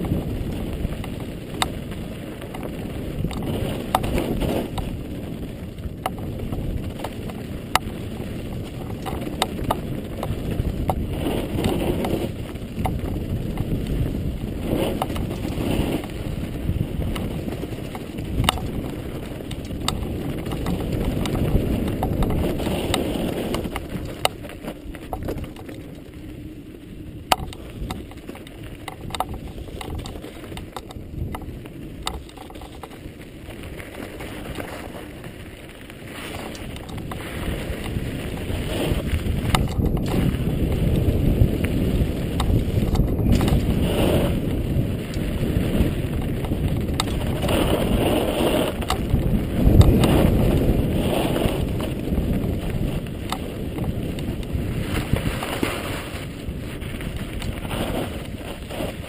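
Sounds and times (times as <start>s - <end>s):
stones and bike rattling: 0.0s - 59.0s
tyre rumble over gravel: 0.0s - 59.0s
wind noise: 0.0s - 59.0s.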